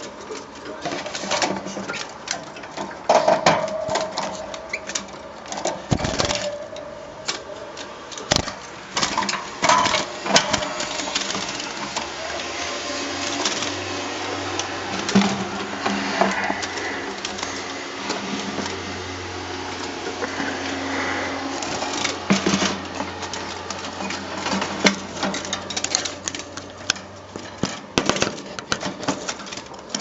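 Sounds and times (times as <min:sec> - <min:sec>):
birds pecking and tapping: 0:00.0 - 0:30.0.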